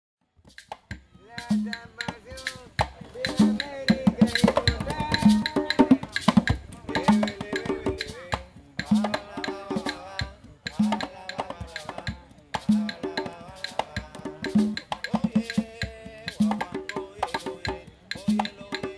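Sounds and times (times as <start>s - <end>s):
conga drums: 0.2s - 18.9s.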